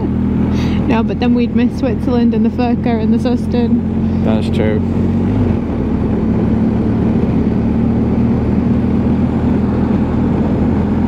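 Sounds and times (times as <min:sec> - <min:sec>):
motorcycle engine running: 0:00.0 - 0:11.0
wind and road rush: 0:00.0 - 0:11.0.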